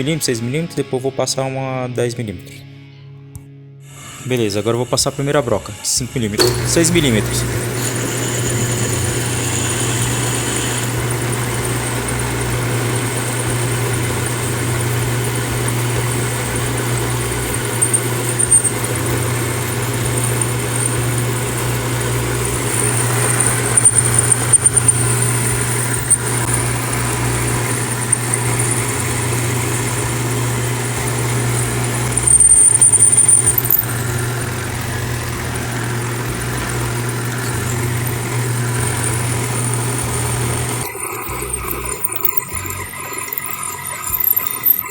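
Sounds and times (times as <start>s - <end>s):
drill bit cutting whine: 4.0s - 44.9s
machine tool motor running: 6.4s - 44.9s.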